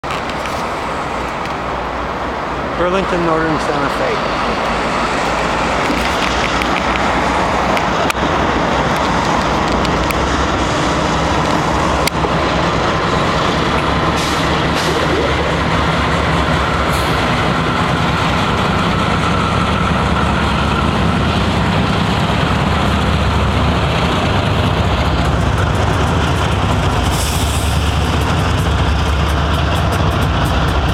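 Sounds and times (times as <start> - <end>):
locomotive engines rumbling: 0.0 - 30.9.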